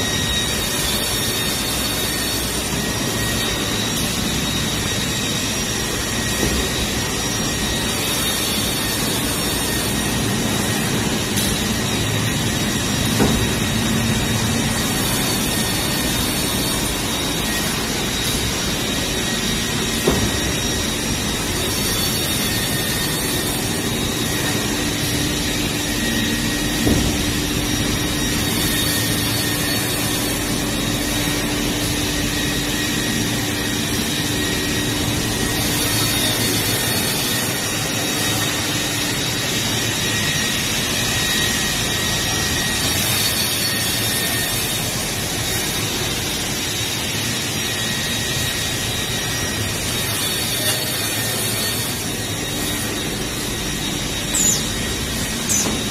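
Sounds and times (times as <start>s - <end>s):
saw line motors humming: 0.0s - 55.9s.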